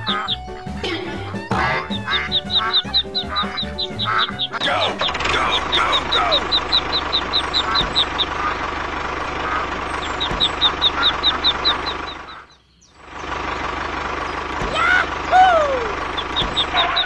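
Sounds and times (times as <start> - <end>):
ducklings peeping: 0.0 - 17.0
tractor engine running: 0.0 - 17.0.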